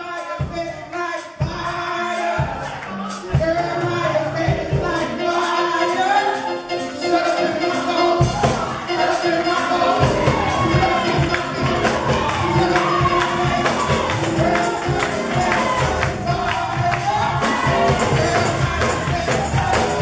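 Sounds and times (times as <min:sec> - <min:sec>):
voices singing gospel: 0:00.0 - 0:20.0.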